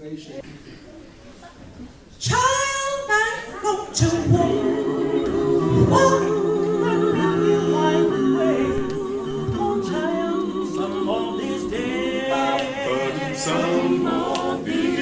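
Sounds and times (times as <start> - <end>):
a cappella group singing in harmony: 2.2 - 15.0.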